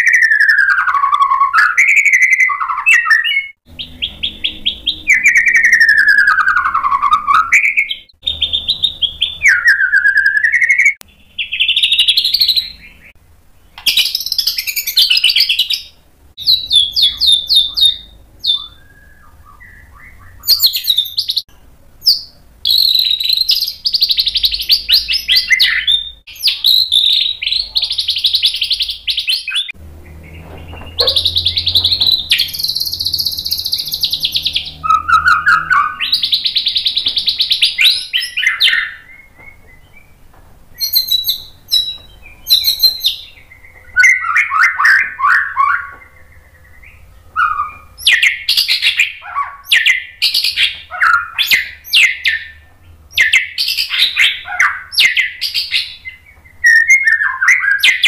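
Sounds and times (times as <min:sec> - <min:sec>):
bird singing whistles and trills: 0:00.0 - 0:58.0.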